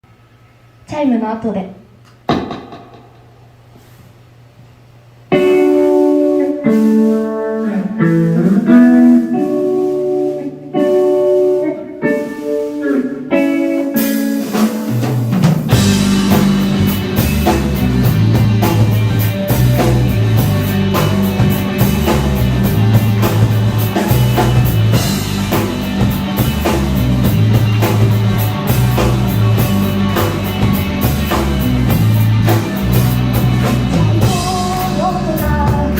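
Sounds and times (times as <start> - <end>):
electric guitar melody: 5.3 - 35.9
rock band playing: 5.3 - 35.9.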